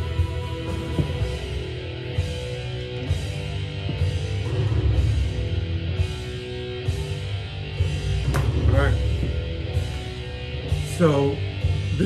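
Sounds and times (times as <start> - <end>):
guitar rock music: 0.0 - 12.0.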